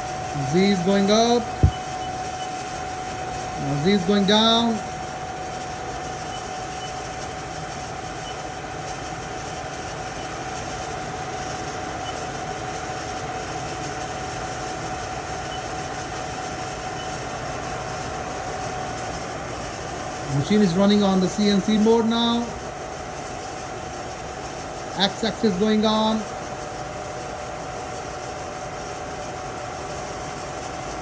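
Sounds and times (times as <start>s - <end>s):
milling machine hum and whine: 0.0s - 31.0s.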